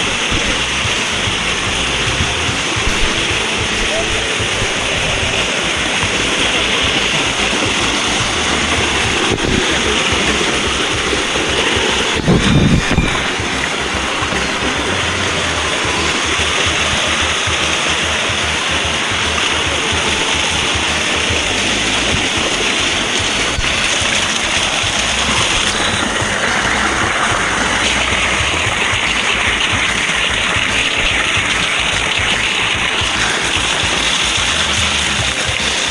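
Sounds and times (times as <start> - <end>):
background music: 0.0 - 35.9
waterfall pouring: 0.0 - 35.9.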